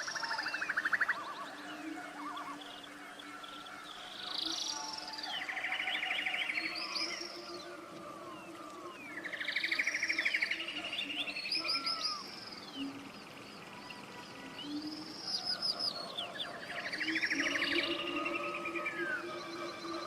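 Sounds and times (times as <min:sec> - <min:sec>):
faint bird calls: 0:00.0 - 0:20.0
songbirds singing: 0:00.0 - 0:20.0.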